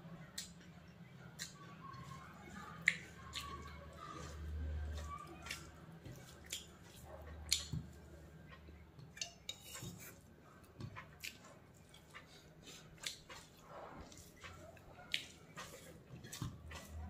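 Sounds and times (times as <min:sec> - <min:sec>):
fingers mixing food on a plate: 0:00.2 - 0:17.0
chewing: 0:00.3 - 0:17.0.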